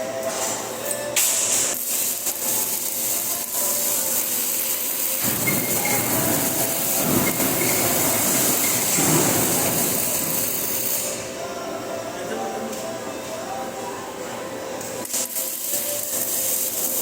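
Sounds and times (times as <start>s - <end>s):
welding arc crackling and hissing: 0.0s - 11.4s, 14.8s - 17.0s.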